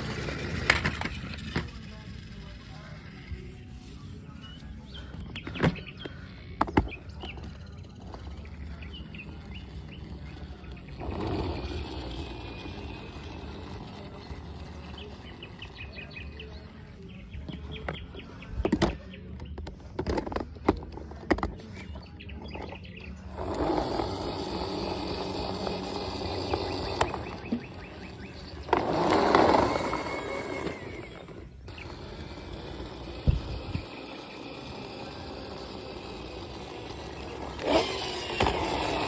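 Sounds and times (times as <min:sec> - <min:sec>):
birds chirping faintly: 0:00.0 - 0:39.0.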